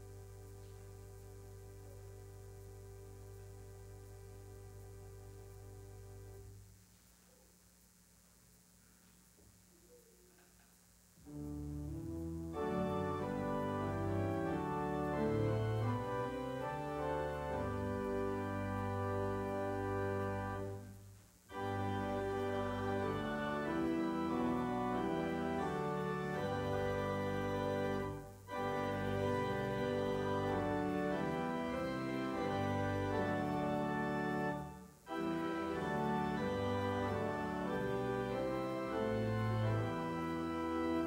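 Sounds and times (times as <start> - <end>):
church organ chords: 0.0 - 6.8, 11.2 - 41.0.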